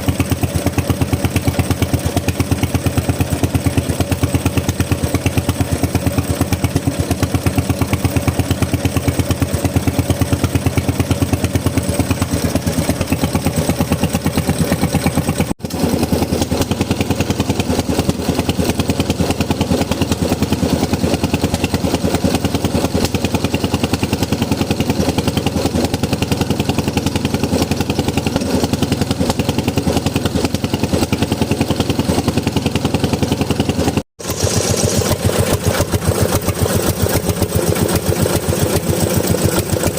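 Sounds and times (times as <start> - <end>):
engine running with fast firing beat: 0.0 - 39.9.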